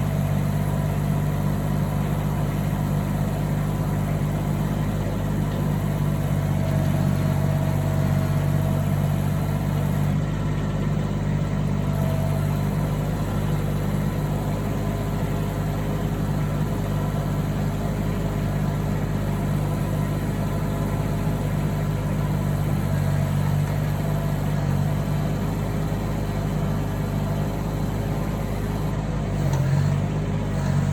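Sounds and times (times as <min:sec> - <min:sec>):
auger engine running: 0:00.0 - 0:30.9.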